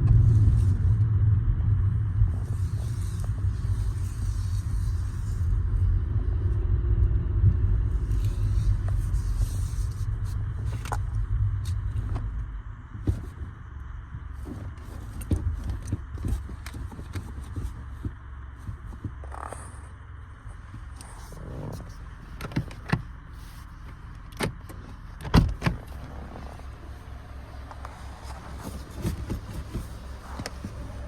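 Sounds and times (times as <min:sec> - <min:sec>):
low car rumble: 0:00.0 - 0:31.0.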